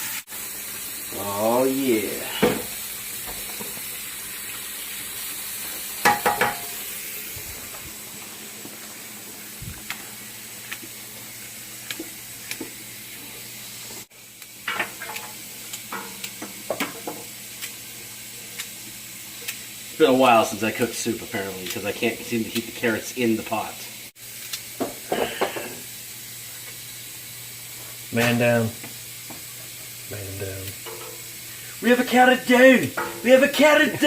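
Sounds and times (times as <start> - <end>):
vegetables sizzling in pot: 0.0 - 34.0.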